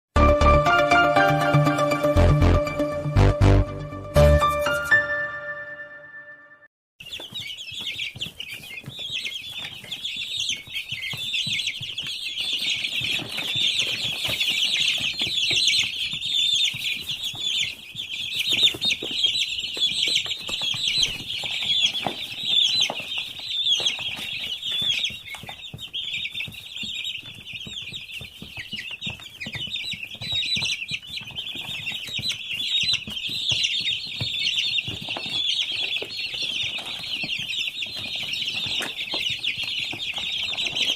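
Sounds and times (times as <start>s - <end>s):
chicks peeping: 7.0s - 40.9s.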